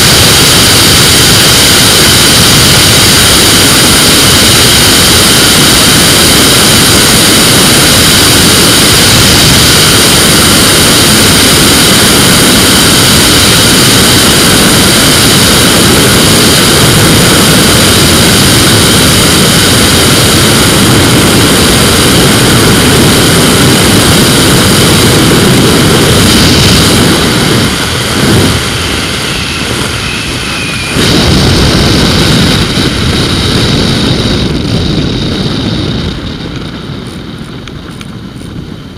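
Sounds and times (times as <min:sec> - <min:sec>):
microlight engine and propeller: 0:00.0 - 0:38.9
wind rushing over microphone: 0:00.0 - 0:38.9.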